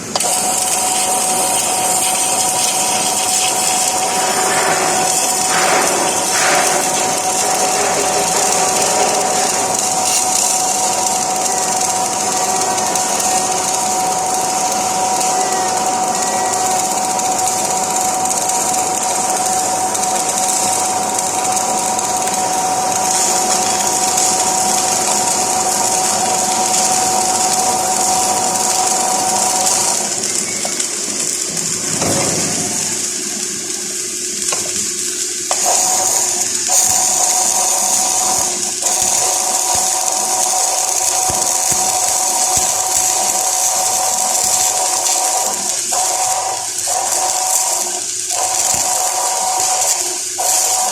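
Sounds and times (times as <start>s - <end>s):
steady whine: 0.0s - 50.9s
welding arc crackling hiss: 0.0s - 50.9s.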